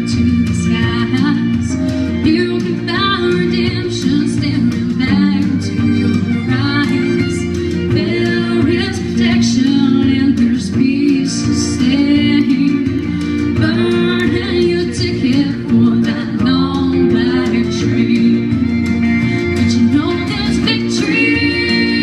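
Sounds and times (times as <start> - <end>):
guitar accompaniment: 0.0 - 22.0
woman singing country song: 0.0 - 22.0.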